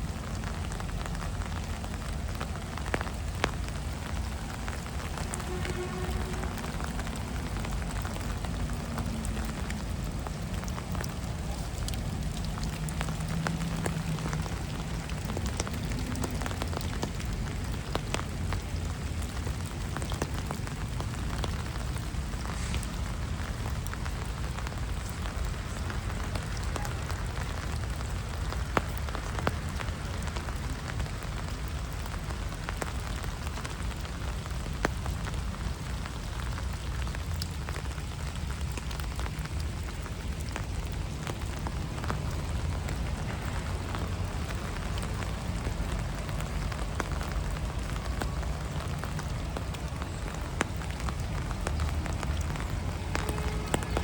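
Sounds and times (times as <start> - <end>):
rain falling on street: 0.0 - 54.0
raindrop taps: 0.0 - 54.0.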